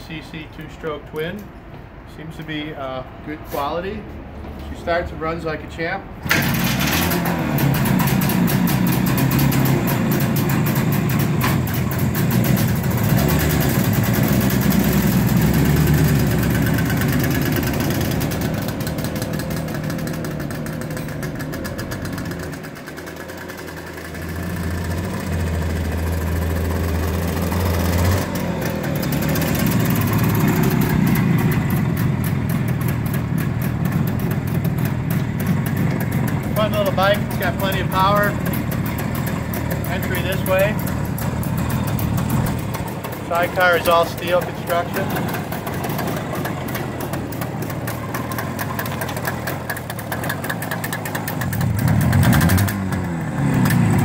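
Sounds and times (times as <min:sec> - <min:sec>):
motorcycle engine revving: 0:06.2 - 0:54.0.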